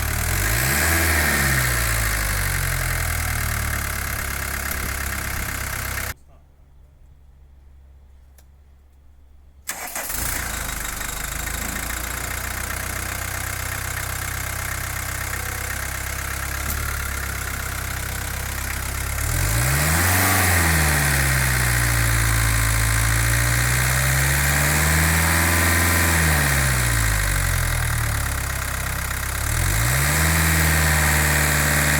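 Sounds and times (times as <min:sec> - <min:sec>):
diesel engine revving: 0:00.0 - 0:06.2, 0:09.7 - 0:31.9
diesel engine starting and idling: 0:00.0 - 0:06.2, 0:09.7 - 0:31.9.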